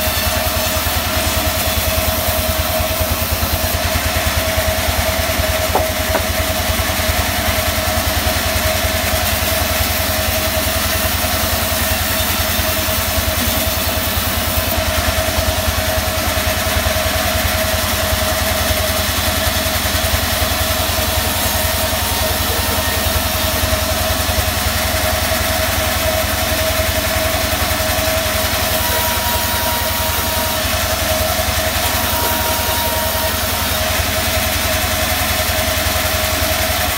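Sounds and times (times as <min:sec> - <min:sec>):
band saw running: 0:00.0 - 0:36.9.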